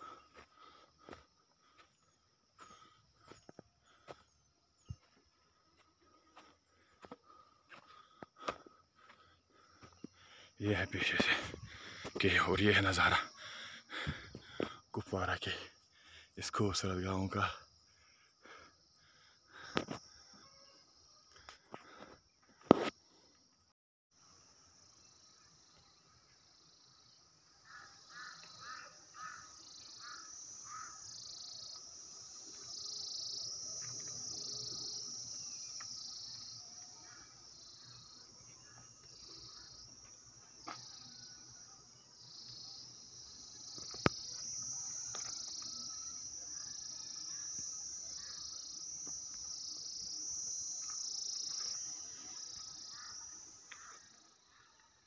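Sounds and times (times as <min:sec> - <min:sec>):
insects pulsing chorus: 0:00.0 - 0:55.0.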